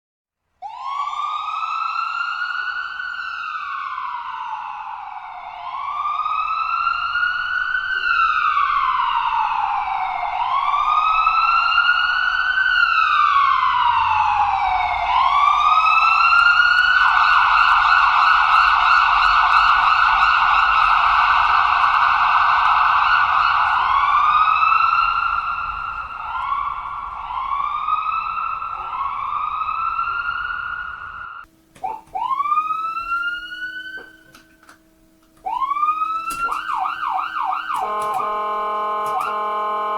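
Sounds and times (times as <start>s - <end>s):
ambulance siren: 0.6s - 39.9s.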